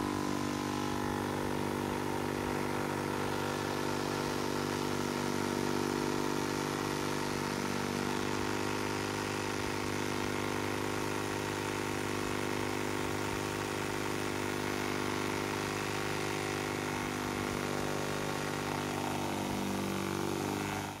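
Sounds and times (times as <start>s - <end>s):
pump buzzing hum: 0.0s - 21.0s.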